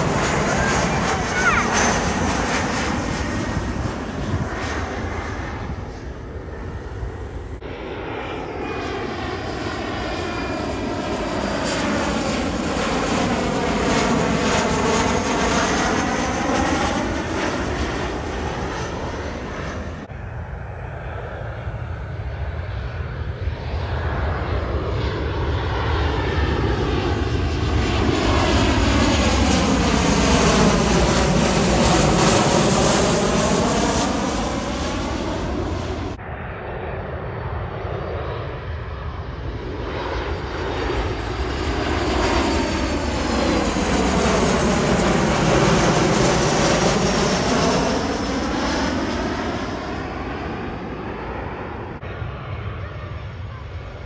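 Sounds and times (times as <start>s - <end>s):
jet airliners passing overhead: 0.0s - 54.0s.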